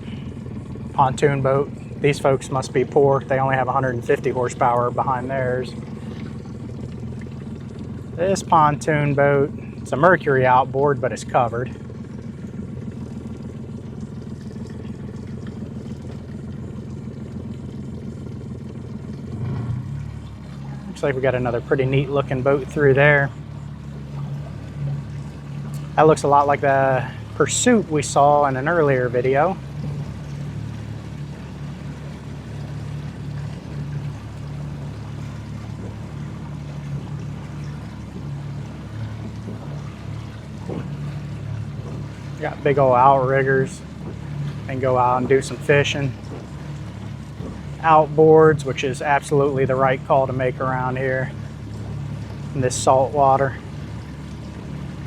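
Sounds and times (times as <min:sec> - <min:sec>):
boat engine droning: 0:00.0 - 0:55.0
water and wind hiss: 0:00.0 - 0:55.0.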